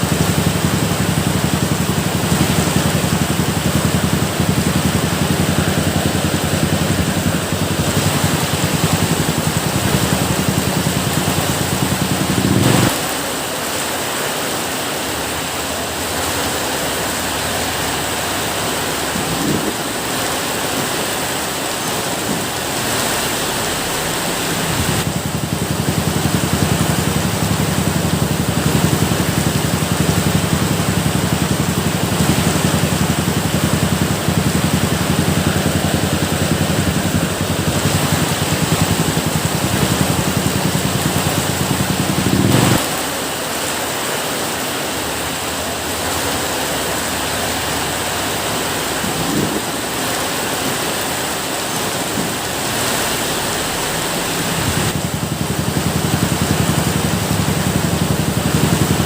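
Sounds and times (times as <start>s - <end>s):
low steady rumble: 0.0s - 13.8s, 16.2s - 43.6s, 47.8s - 59.0s
heavy rain hissing: 0.0s - 59.0s.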